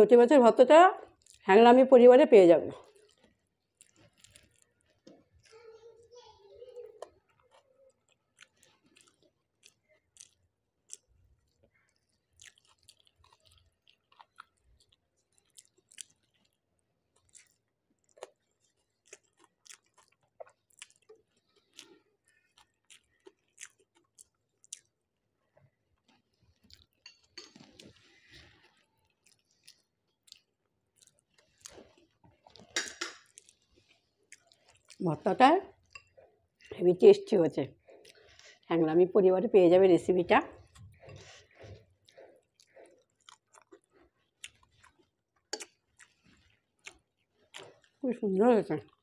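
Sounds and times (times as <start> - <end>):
person chewing food: 1.0 - 1.5, 2.8 - 5.6, 7.0 - 35.0, 35.7 - 36.7, 37.7 - 38.7, 40.5 - 48.0.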